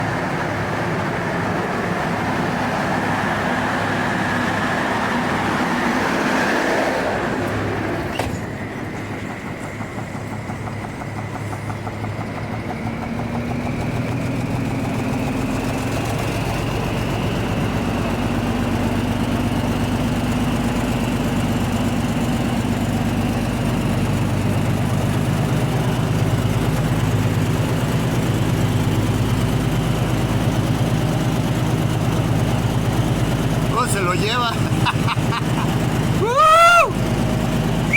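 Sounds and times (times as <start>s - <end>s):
large machine running: 0.0s - 37.9s.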